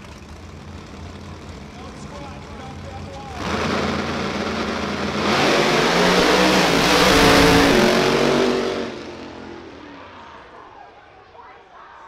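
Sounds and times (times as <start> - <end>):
racing car engines accelerating: 0.1 - 10.7.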